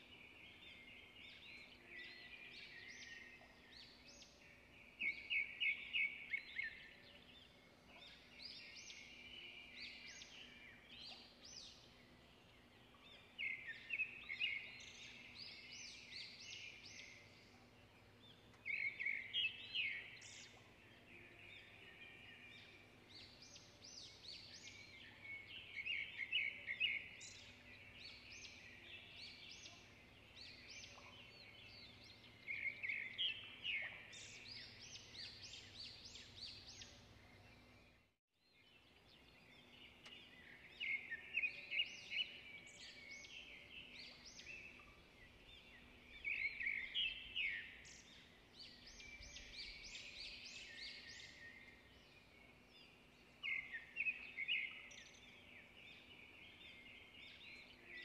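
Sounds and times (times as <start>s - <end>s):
faint background hiss: 0.0s - 38.0s, 38.6s - 58.0s.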